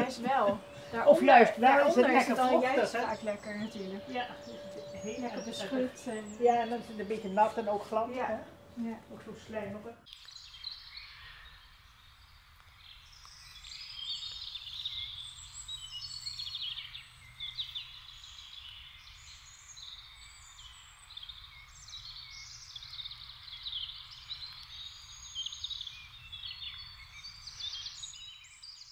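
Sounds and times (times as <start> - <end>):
songbirds chirping and trilling: 0.0 - 28.9.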